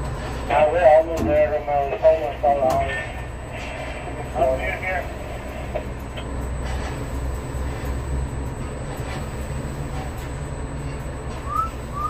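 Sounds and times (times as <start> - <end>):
construction site rumble: 0.0 - 12.0.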